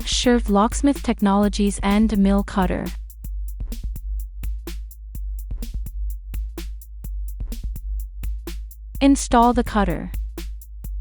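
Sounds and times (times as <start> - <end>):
electronic music with drum machine: 0.0 - 11.0.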